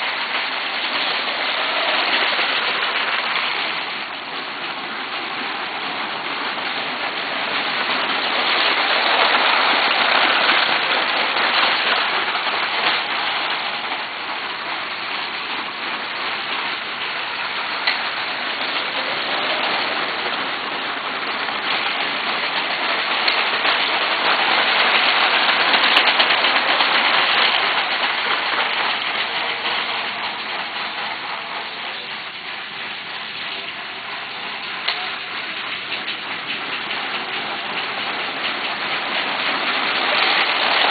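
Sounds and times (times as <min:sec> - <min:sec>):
toy trains rattling on track: 0:00.0 - 0:40.9.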